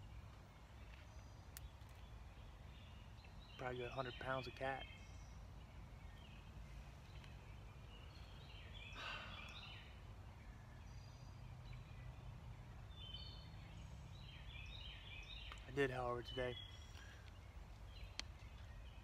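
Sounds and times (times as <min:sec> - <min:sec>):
faint birdsong: 0:00.0 - 0:19.0.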